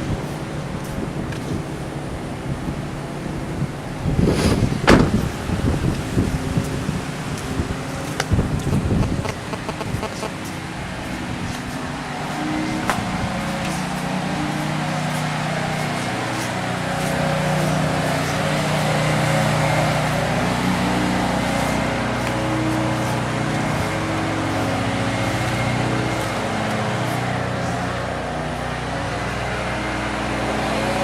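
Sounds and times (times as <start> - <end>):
road noise: 0.0 - 31.0
vehicle engine hum: 0.0 - 31.0.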